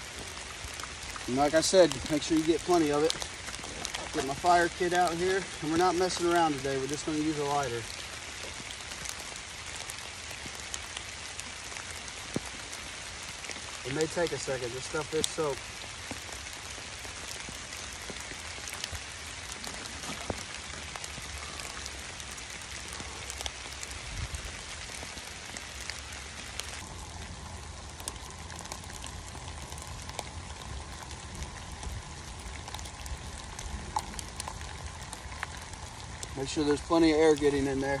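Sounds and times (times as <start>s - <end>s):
rain on wet leaf litter: 0.0s - 38.0s.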